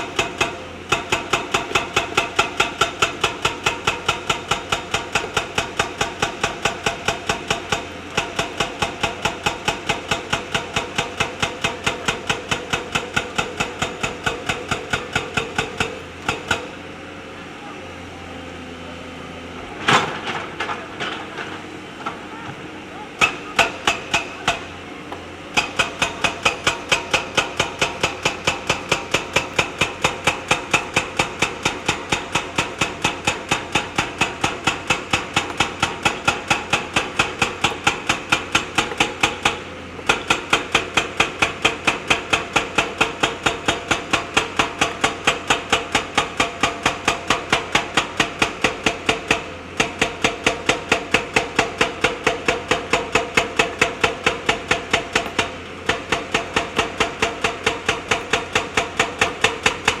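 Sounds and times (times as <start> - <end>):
rapid hammering blows on stones: 0.1 - 16.8, 23.2 - 24.7, 25.6 - 60.0.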